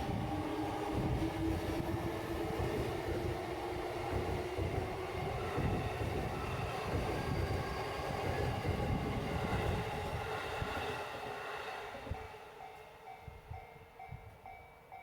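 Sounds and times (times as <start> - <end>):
train wheels rumbling on rail: 0.0 - 14.6.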